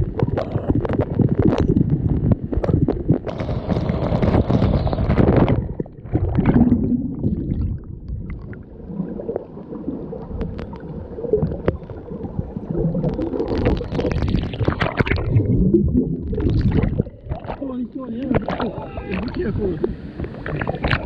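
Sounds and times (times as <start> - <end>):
water sloshing and gurgling: 0.0 - 21.0
water splashing: 2.5 - 21.0.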